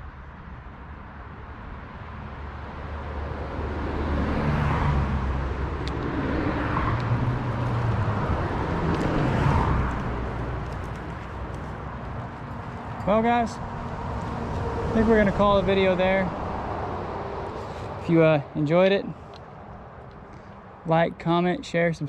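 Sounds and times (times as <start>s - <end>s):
motor vehicle passing: 2.2s - 20.8s.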